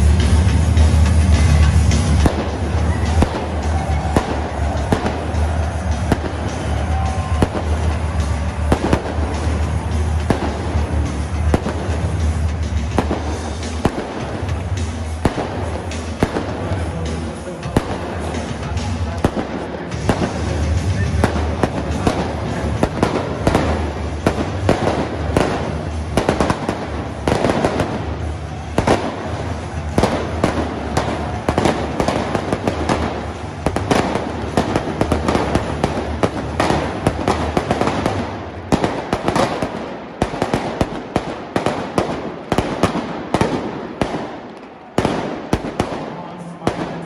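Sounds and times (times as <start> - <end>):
firecrackers banging: 0.0 - 47.0.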